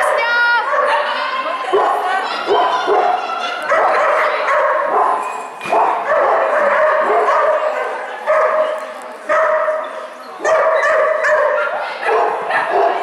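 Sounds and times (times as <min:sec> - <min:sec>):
dog barking: 0:00.1 - 0:13.0.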